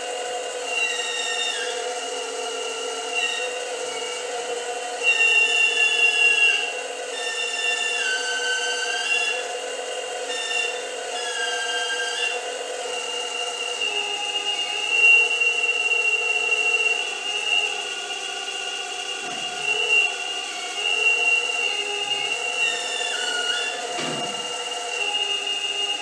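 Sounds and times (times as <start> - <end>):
hydraulic pump whining: 0.0 - 26.0.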